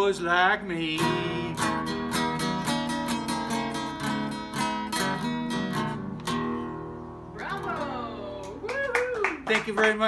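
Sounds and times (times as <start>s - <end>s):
acoustic guitar strumming chords: 0.0s - 8.2s.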